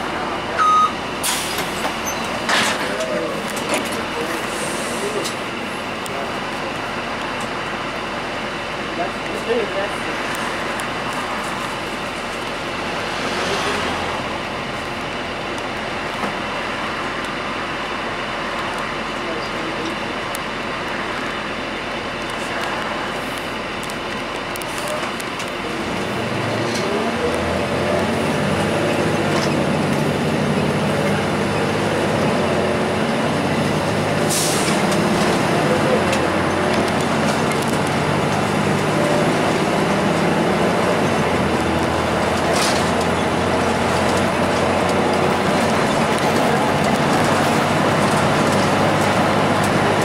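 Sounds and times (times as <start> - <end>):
bus diesel engine drone: 0.0 - 50.0
road noise: 0.0 - 50.0.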